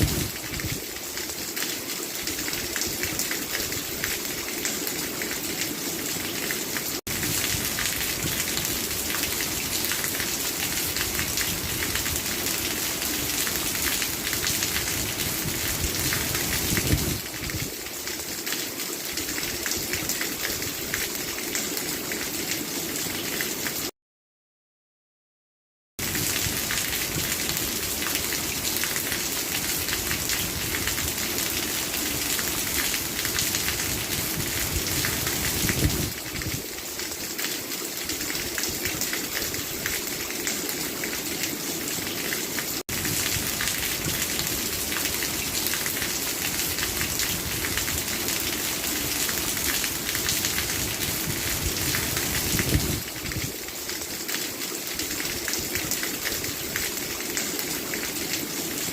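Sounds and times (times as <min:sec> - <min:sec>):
heavy rain pattering: 0:00.0 - 0:23.9, 0:26.0 - 0:58.9.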